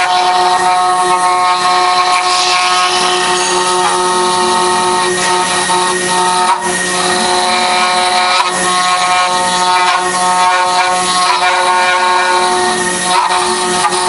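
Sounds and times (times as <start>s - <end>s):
router machine whine: 0.0s - 14.0s.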